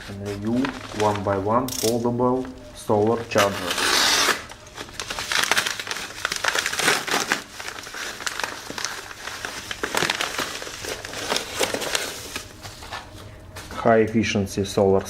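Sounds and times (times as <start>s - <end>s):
packaging crinkling: 0.0s - 13.8s.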